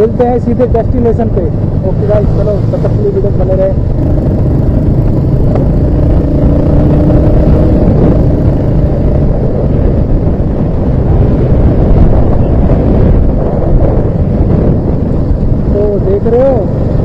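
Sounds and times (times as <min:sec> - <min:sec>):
motorcycle engine cruising: 0:00.0 - 0:17.0
road noise: 0:00.0 - 0:17.0
wind buffeting microphone: 0:00.0 - 0:17.0.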